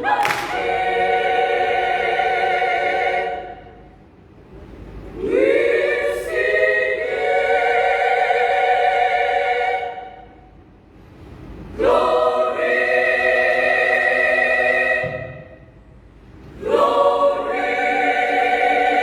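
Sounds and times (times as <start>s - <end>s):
women's choir singing: 0.0s - 4.0s, 5.1s - 10.5s, 11.7s - 15.6s, 16.5s - 19.0s.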